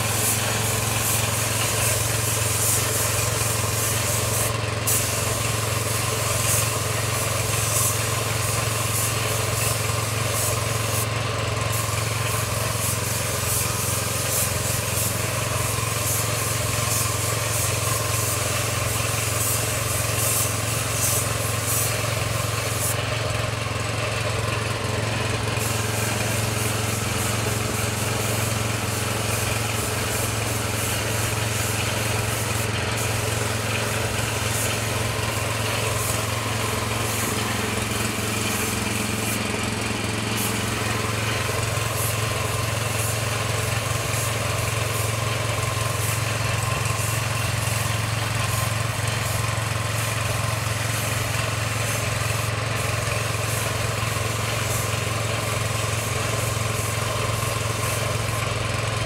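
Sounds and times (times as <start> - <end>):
spray gun hissing: 0.0 - 58.9
air compressor humming: 0.0 - 59.0.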